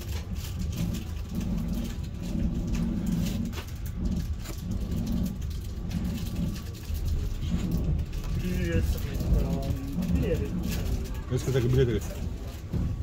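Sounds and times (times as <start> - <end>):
train cabin rumble: 0.0 - 13.0
wheels clicking on track: 0.0 - 13.0.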